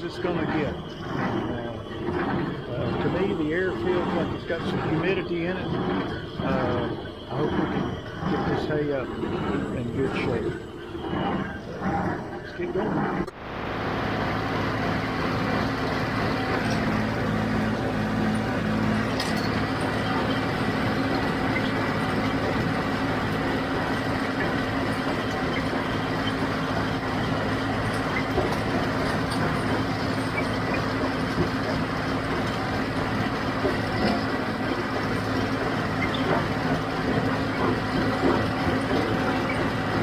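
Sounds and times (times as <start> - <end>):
baler machinery noise: 0.0 - 40.0
tractor diesel engine drone: 0.0 - 40.0.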